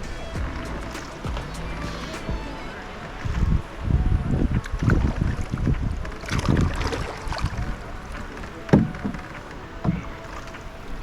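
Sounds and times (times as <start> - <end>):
water sloshing around kayak: 0.4 - 11.0.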